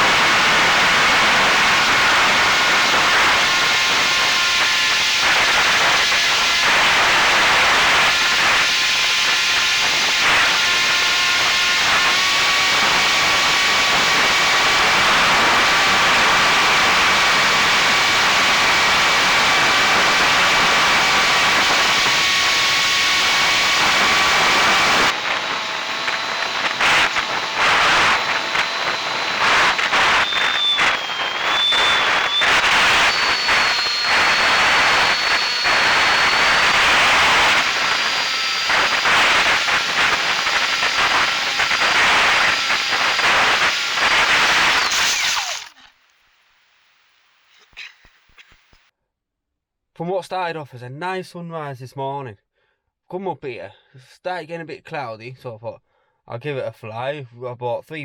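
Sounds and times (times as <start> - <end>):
electric motor and propeller whining: 0.0 - 46.7.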